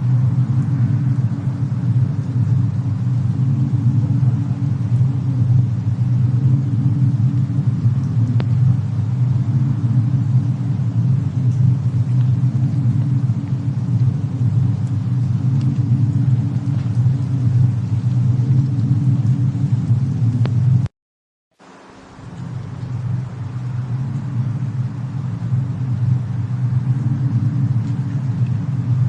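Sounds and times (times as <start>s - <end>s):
deep rumble: 0.0s - 20.9s, 22.0s - 29.0s
faint fire crackles: 0.0s - 20.9s, 21.6s - 29.0s.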